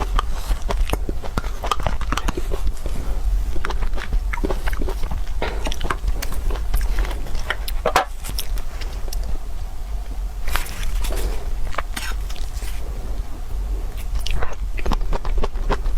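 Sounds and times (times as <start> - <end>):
person biting and chewing food: 0.0 - 9.4, 10.4 - 15.9
low hum: 0.0 - 15.9.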